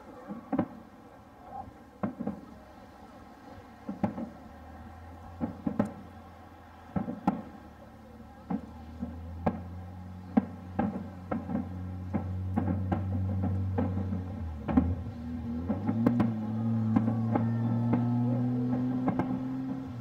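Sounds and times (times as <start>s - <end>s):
distant fireworks booming: 0.0s - 20.0s.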